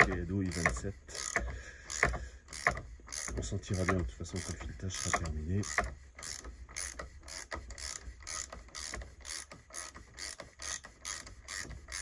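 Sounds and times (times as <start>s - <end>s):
socket ratchet clicking: 0.0s - 12.0s.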